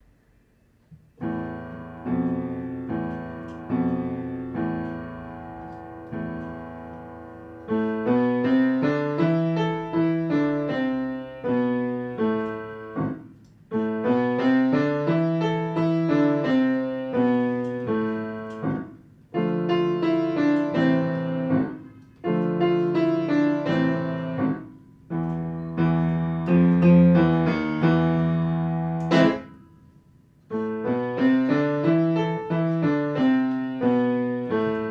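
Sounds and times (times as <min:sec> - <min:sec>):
piano playing: 0:01.1 - 0:34.9.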